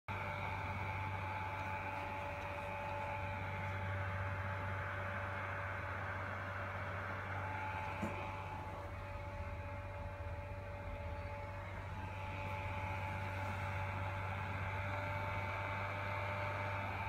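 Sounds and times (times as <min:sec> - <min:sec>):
electrical hum: 0:00.1 - 0:17.0
faint whining tones: 0:00.1 - 0:17.0.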